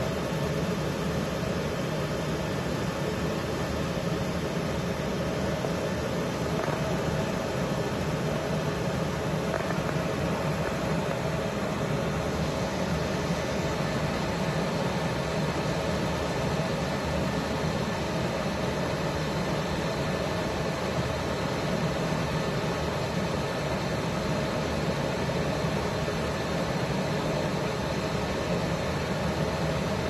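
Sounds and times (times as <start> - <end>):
faint constant hum: 0.0 - 30.0
laser machine cooling fan whir: 0.0 - 30.0.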